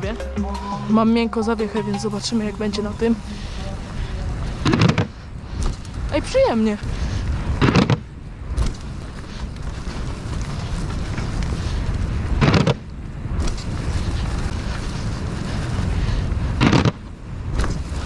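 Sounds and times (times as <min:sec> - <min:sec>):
wind rushing over microphone: 0:00.7 - 0:18.0
bike tyre rumble on grass: 0:00.9 - 0:18.0.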